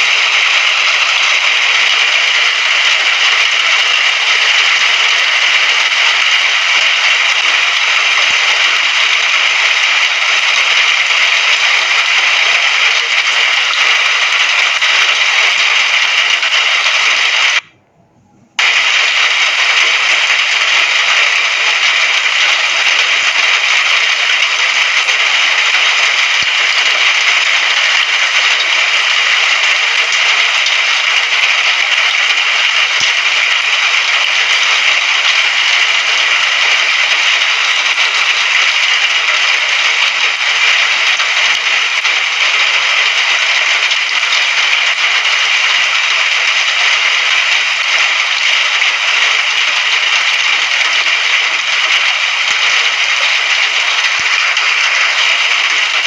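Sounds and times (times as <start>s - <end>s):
steady rain hiss: 0.0s - 17.7s, 18.6s - 56.0s.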